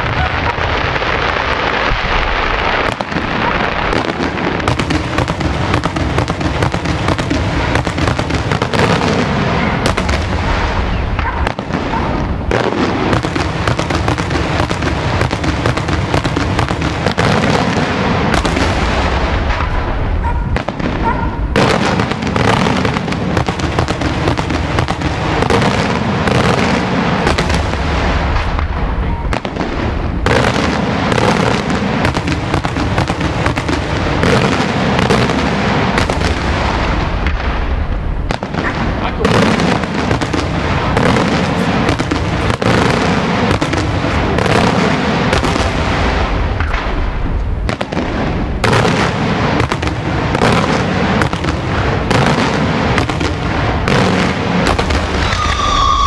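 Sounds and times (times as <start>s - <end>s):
fireworks bursting with loud bangs: 0.0s - 56.0s.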